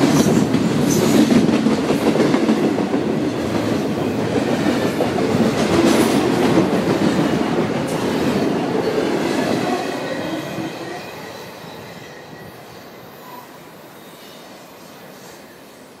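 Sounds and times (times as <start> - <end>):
train wheels running on rails: 0.0 - 13.4.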